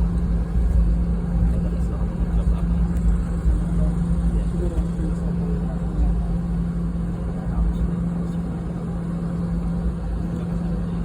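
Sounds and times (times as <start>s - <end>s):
airliner cabin engine drone: 0.0s - 11.0s.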